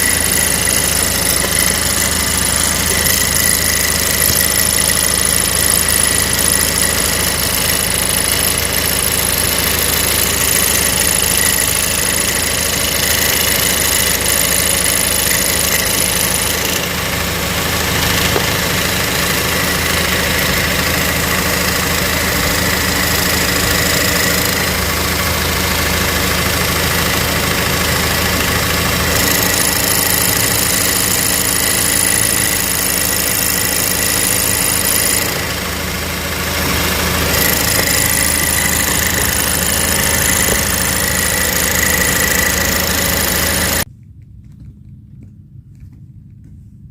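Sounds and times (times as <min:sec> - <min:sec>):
car engine idling with rattle: 0:00.0 - 0:43.9.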